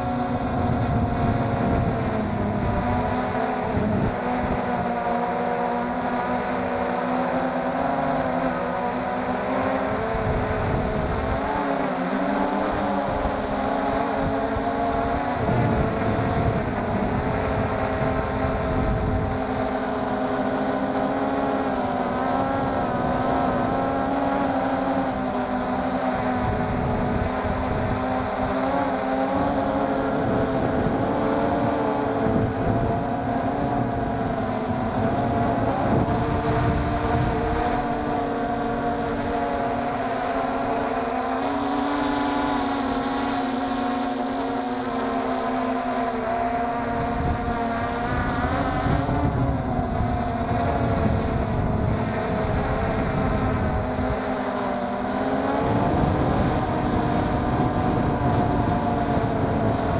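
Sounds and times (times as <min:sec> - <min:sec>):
drone propellers buzzing: 0:00.0 - 0:59.9
wind rushing over microphone: 0:00.0 - 0:59.9.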